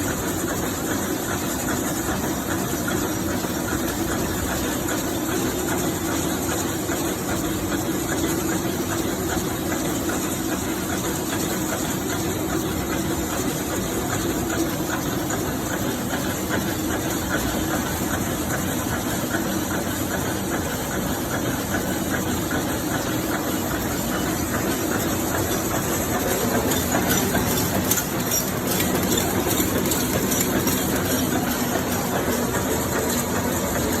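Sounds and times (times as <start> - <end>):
constant machine hum: 0.0 - 34.0
packing machine clattering: 0.1 - 34.0.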